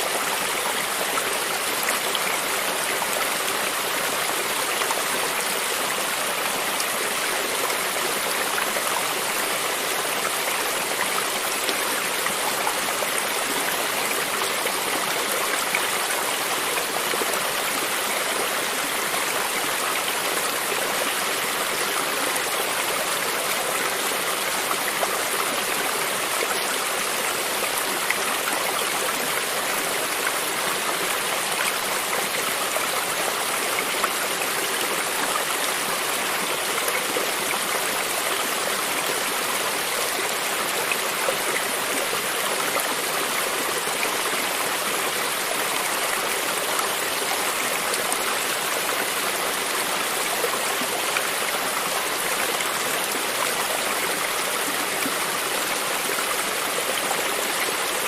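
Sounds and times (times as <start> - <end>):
creek water over stones: 0.0 - 58.0.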